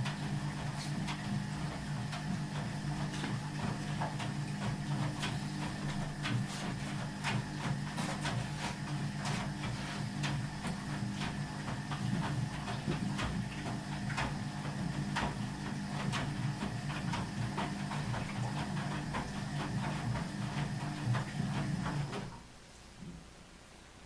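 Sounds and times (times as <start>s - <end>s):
washing machine humming: 0.0s - 23.3s.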